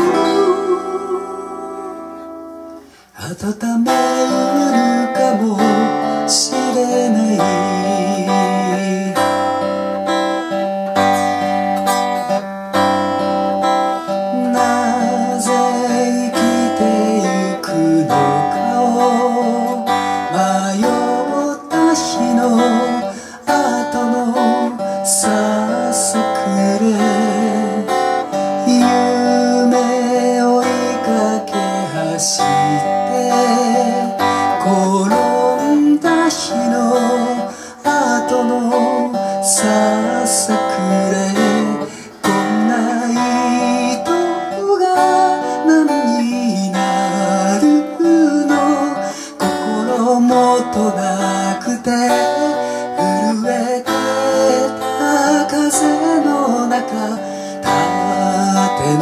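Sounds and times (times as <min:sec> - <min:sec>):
acoustic guitar strummed chords: 0:00.0 - 0:59.0.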